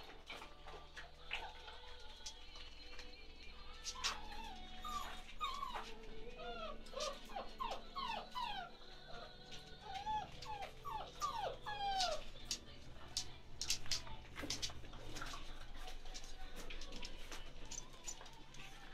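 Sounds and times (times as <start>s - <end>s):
puppies whimpering and yipping: 0.0s - 18.9s.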